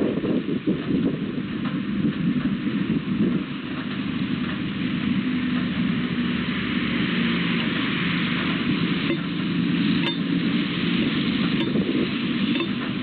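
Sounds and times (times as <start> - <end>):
steady rain hiss: 1.2 - 13.0.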